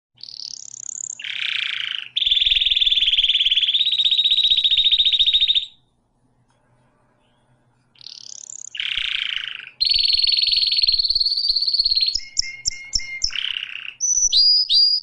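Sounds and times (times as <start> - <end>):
canary singing: 0.2 - 5.9, 7.1 - 15.0.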